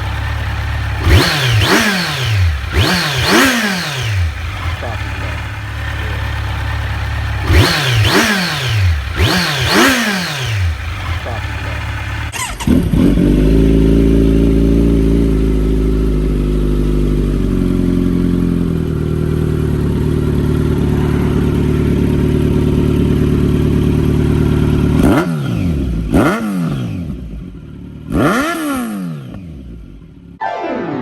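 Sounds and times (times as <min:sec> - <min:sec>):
motorcycle engine idling: 0:00.0 - 0:26.2, 0:27.0 - 0:28.1
motorcycle engine revving: 0:00.0 - 0:30.4.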